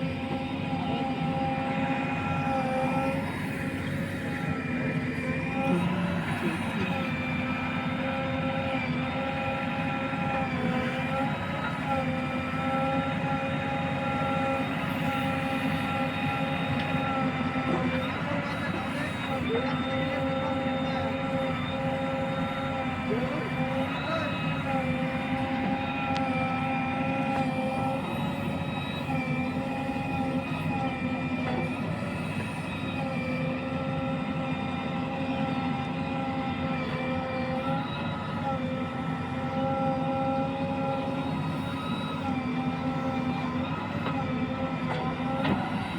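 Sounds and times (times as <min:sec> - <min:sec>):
steady whine: 0:00.0 - 0:45.9.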